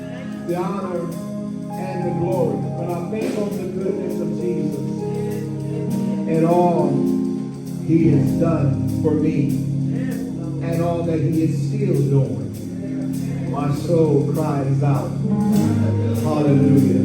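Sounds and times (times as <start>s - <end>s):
organ chords: 0.0s - 17.0s
person singing gospel melody: 0.0s - 17.0s.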